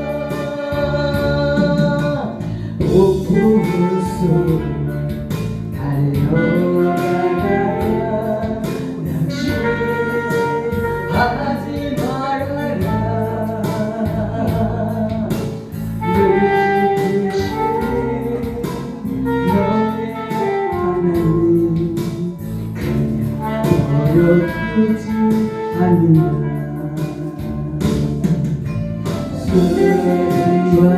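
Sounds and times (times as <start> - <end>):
gospel worship instrumental: 0.0 - 30.9.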